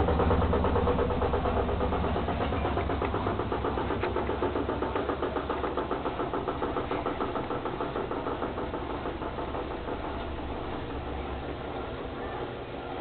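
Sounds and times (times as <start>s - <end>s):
rhythmic knocking: 0.0s - 13.0s
washing machine running: 0.0s - 13.0s.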